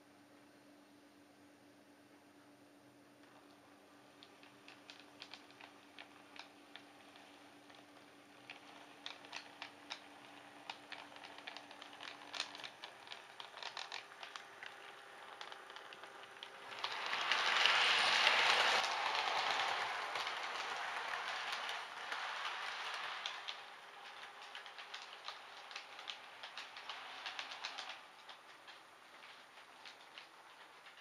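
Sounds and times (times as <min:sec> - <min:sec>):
model train rushing rumble: 0:03.2 - 0:31.0
model train wheels clicking: 0:03.2 - 0:31.0.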